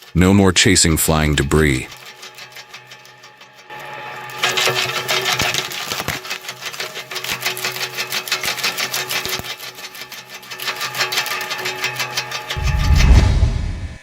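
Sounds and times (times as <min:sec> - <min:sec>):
wood machine clattering and humming: 0:00.0 - 0:12.6.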